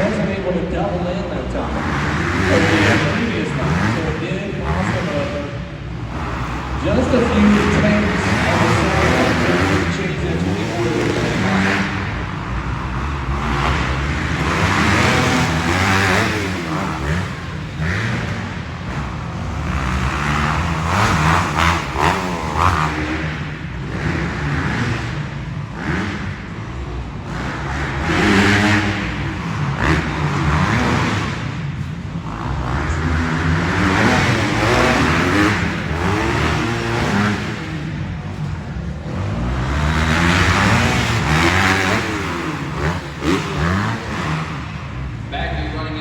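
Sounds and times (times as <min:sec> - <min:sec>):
dirt bike engines revving: 0:00.0 - 0:46.0.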